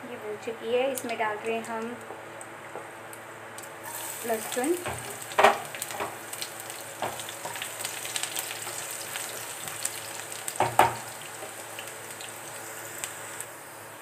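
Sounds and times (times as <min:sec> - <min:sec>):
garlic sizzling in hot oil: 0:02.6 - 0:14.0.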